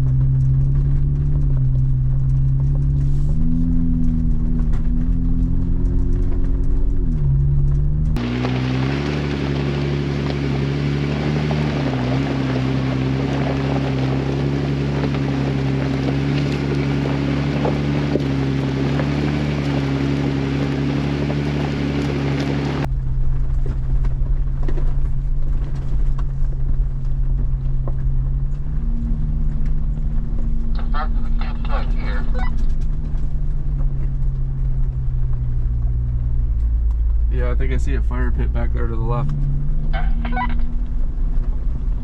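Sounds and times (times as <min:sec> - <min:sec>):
dull low rumble: 0:00.0 - 0:42.0
engine running at low speed: 0:00.0 - 0:42.0
tyres on gravel: 0:00.0 - 0:42.0.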